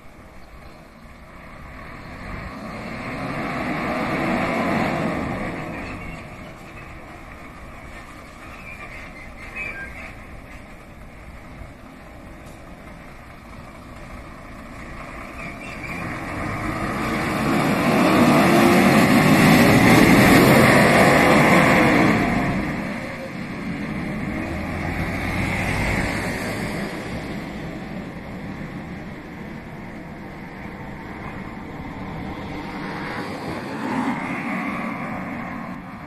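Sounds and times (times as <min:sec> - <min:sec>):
fire engine driving past: 0:00.0 - 0:36.0
tyre noise on road: 0:00.0 - 0:36.0.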